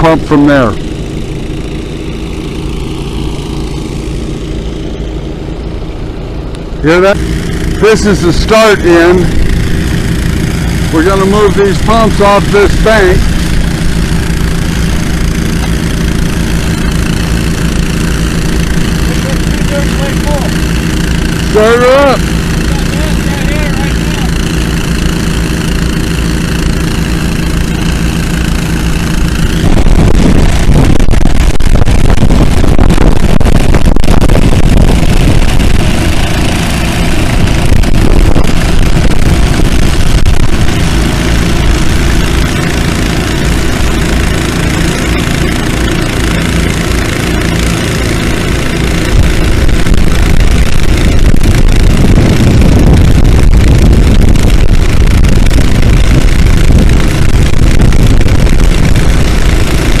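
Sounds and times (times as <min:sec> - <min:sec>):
engine running: 0:00.0 - 1:00.0.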